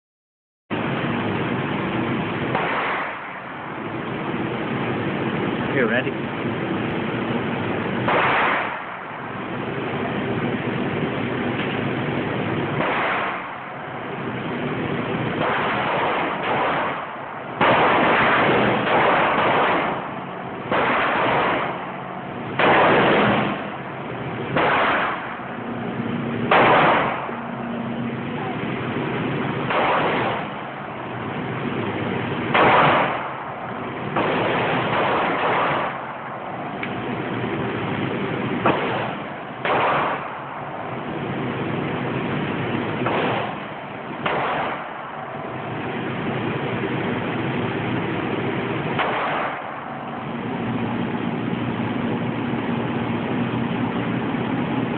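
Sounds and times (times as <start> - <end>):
pistol shots with echo: 2.3 - 4.5, 7.8 - 10.4, 11.1 - 54.8.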